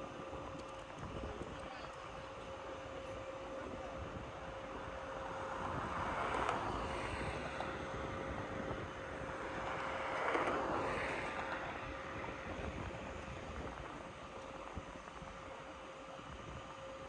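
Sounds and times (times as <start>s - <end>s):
heavy machinery humming: 0.0s - 17.0s.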